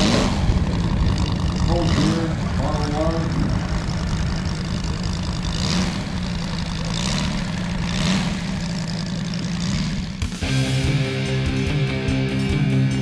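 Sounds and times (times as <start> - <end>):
model aircraft engine running: 0.0 - 11.8.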